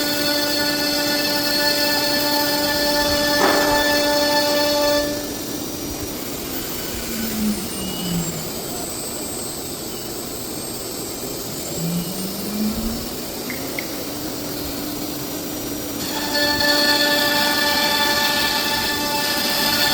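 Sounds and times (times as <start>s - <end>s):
low gliding motor tones: 0.0s - 9.2s, 11.6s - 19.9s
cnc router running: 0.0s - 19.9s
high motor whine: 0.0s - 19.9s.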